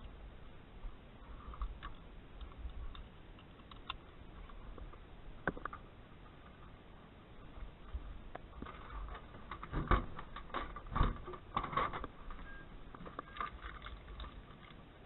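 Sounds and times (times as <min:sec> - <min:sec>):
light clicks and knocks: 0:01.5 - 0:06.8, 0:07.4 - 0:14.9.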